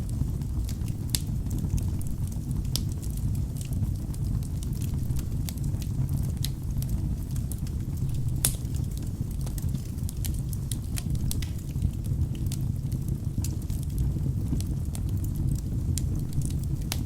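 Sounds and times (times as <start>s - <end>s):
logs crackling and popping: 0.0s - 17.0s
wood fire burning: 0.0s - 17.0s.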